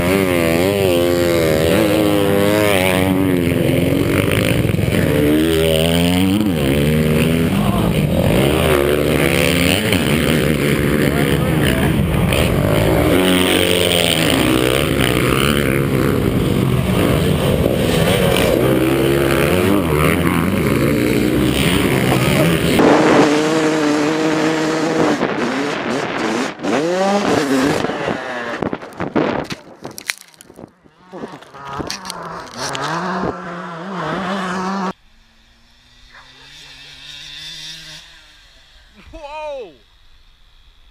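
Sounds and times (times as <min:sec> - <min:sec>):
dirt bikes revving together: 0:00.0 - 0:29.4, 0:30.1 - 0:40.9
two-stroke dirt bike revving: 0:00.0 - 0:40.9.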